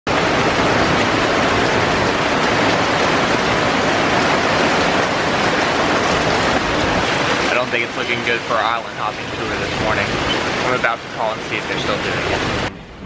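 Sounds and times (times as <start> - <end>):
heavy rain on palm fronds: 0.1 - 13.0.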